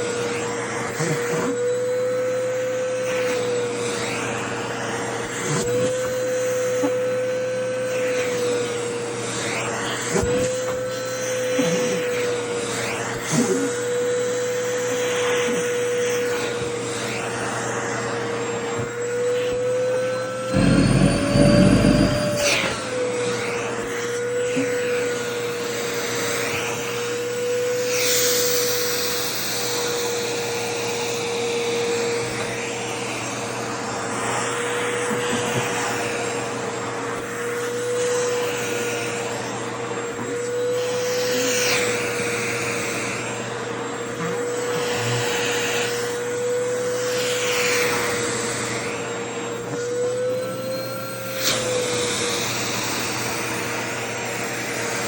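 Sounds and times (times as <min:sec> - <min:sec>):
vacuum cleaner whining: 0:00.0 - 0:55.0.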